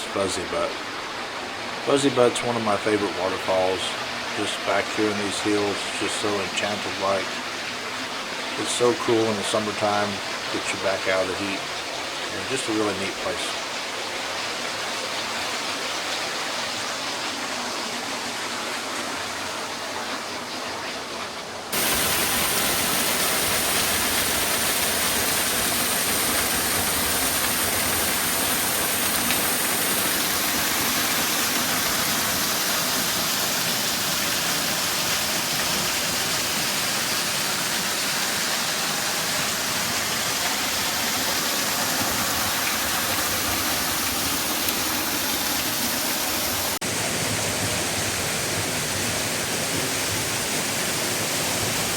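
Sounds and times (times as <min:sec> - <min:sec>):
waterfall roaring: 0:00.0 - 0:20.6, 0:21.7 - 0:51.9.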